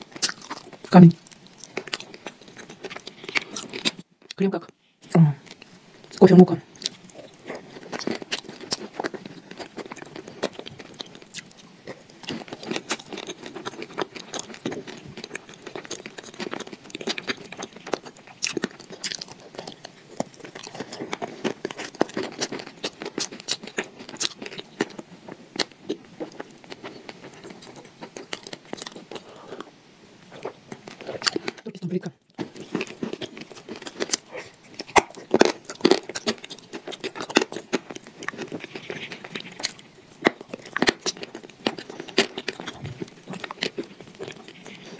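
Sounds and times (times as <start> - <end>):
person chewing thick paste: 0.0 - 4.4, 5.4 - 44.9.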